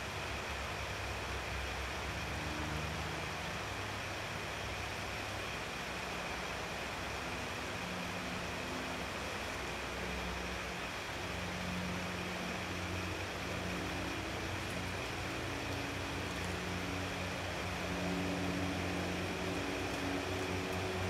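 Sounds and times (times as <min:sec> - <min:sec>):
constant hiss: 0:00.0 - 0:21.0
distant engine hum: 0:00.0 - 0:21.0.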